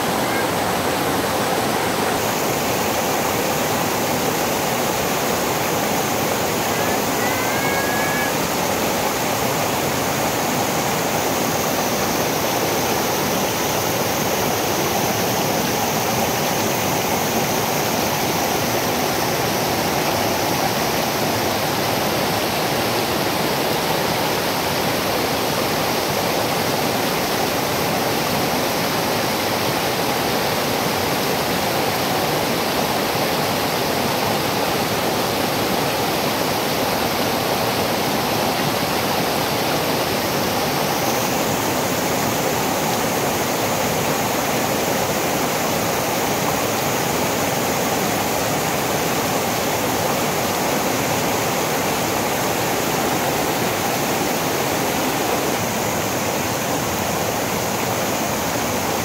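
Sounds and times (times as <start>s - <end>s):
waterfall rushing over boulders: 0.0s - 59.0s.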